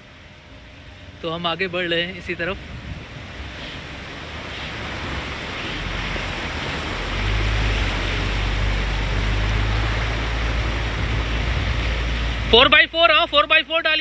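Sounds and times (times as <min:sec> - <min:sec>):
steady rushing noise: 0:00.0 - 0:14.0
vehicle engine rumble: 0:00.0 - 0:14.0.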